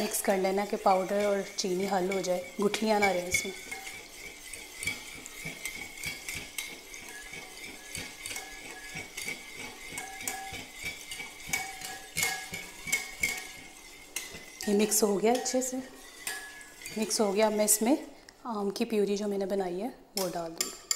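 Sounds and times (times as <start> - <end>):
whisk clinking against glass bowl: 0.0 - 18.0.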